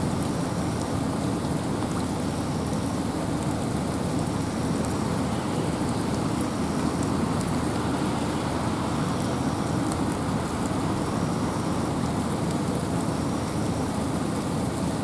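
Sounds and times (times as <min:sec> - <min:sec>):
faint rain drop ticks: 0:00.0 - 0:14.9
steady rain with wind: 0:00.0 - 0:15.0.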